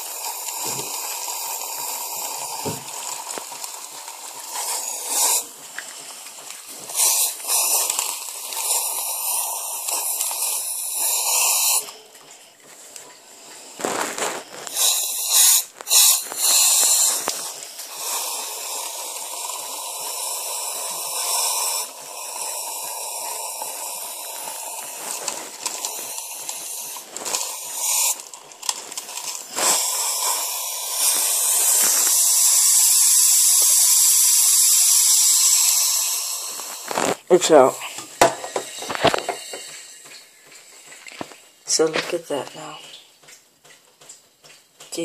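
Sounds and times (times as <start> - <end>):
air duster can hissing: 0.0 - 12.0, 13.6 - 40.0.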